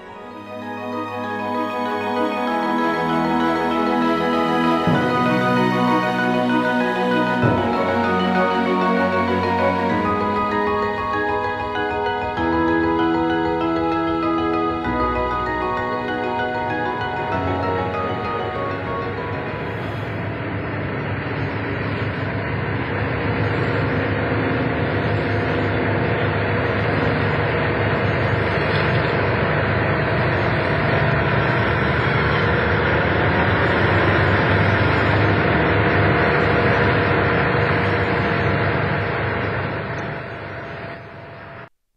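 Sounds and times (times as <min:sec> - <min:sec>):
road noise: 0:00.0 - 0:41.6
truck engine drone: 0:00.0 - 0:41.7.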